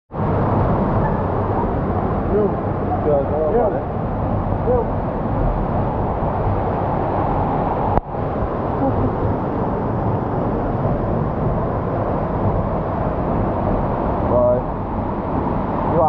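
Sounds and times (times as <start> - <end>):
low rumbling noise: 0.1 - 16.0.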